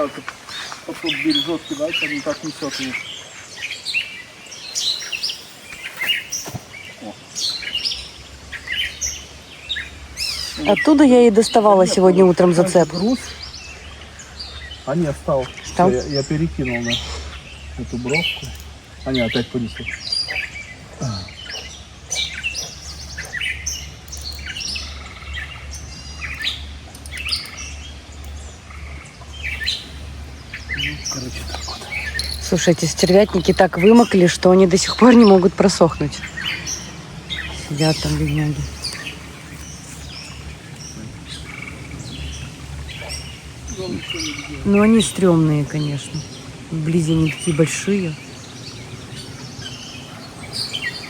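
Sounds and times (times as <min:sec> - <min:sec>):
songbirds chirping: 0:00.0 - 0:51.0
steady low hum: 0:00.0 - 0:51.0.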